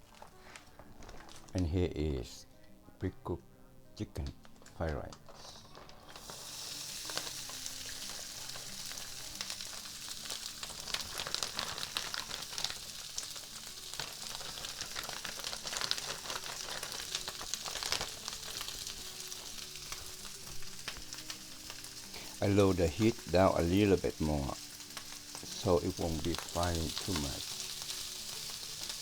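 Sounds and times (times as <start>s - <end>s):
fried rice sizzling in pan: 5.2s - 29.0s.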